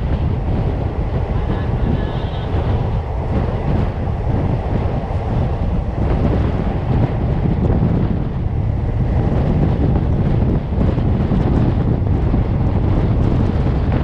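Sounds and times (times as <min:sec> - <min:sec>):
passenger train running: 0:00.0 - 0:14.0
wind buffeting microphone: 0:00.0 - 0:14.0.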